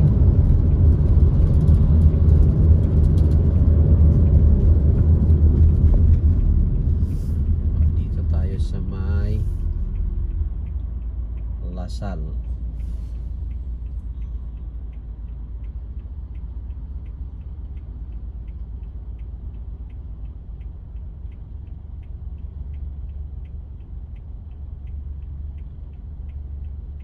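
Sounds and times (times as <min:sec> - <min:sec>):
car engine idling: 0:00.0 - 0:27.0
light even ticking: 0:00.2 - 0:27.0.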